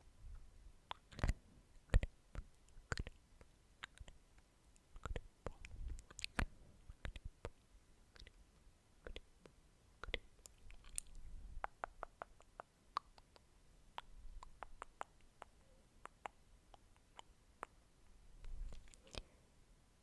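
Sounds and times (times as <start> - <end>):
mouth clicks and pops: 0.9 - 7.6, 9.0 - 17.8, 18.4 - 19.3.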